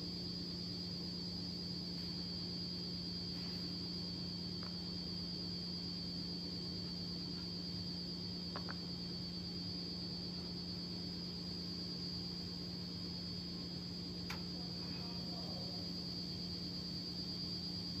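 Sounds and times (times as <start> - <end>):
electrical hum: 0.0 - 18.0
faint high whine: 0.0 - 18.0.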